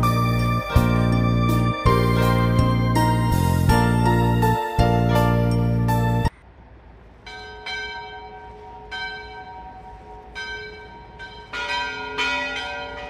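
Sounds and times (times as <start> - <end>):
bells ringing: 0.0 - 6.3, 7.2 - 13.0.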